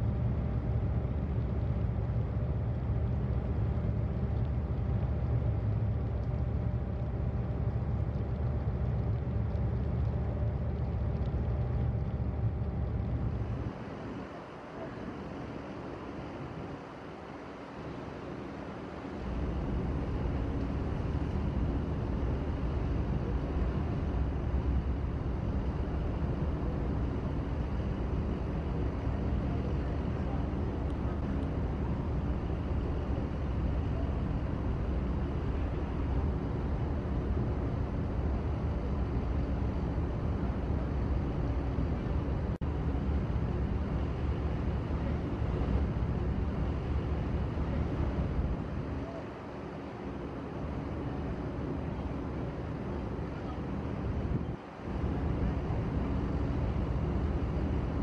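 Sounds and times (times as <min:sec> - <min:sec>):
tugboat engine rumble: 0:00.0 - 0:58.0.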